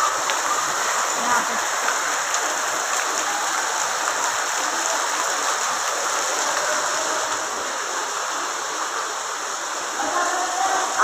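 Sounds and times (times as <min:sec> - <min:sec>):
rain and hail on pavement: 0:00.0 - 0:11.0.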